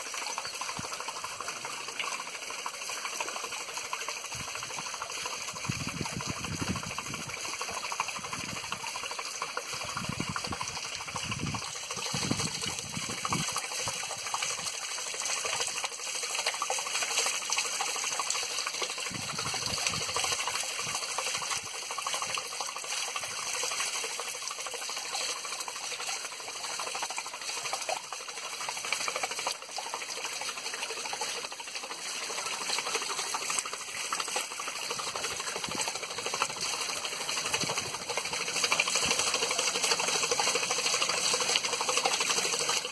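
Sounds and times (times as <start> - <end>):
water splashing off waterwheel: 0.0 - 42.9.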